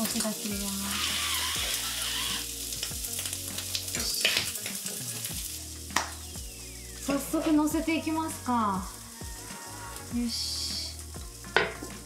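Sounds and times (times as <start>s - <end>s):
bacon sizzling in frying pan: 0.0s - 12.0s.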